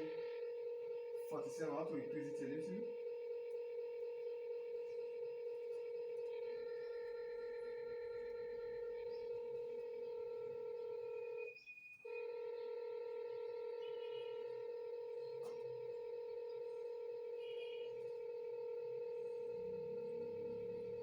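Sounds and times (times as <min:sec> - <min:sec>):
satellite finder meter tone: 0:00.0 - 0:21.0.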